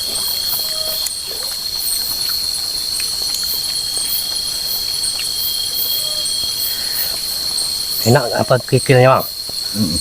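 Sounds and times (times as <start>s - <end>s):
insects shrilling: 0.0s - 10.0s.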